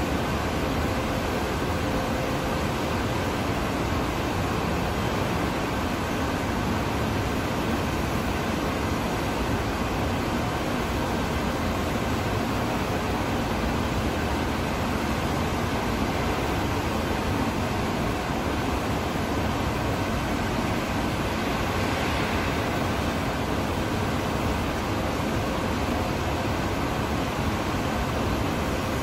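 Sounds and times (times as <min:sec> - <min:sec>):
factory mechanical hiss and rumble: 0:00.0 - 0:29.0.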